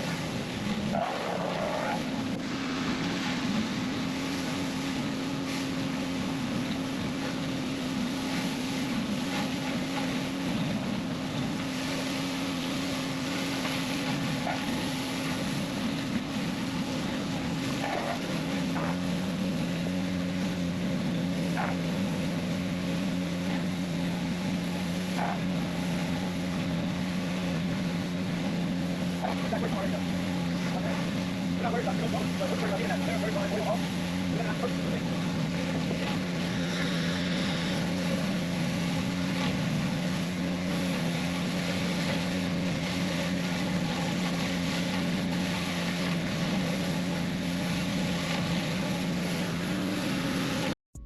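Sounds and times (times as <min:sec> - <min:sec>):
spraying water hiss: 0:00.0 - 0:50.7
motor hum: 0:00.0 - 0:51.0.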